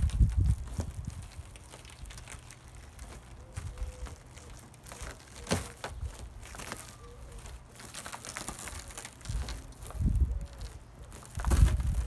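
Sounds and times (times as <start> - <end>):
broken glass crackling under tape: 0.0 - 12.0.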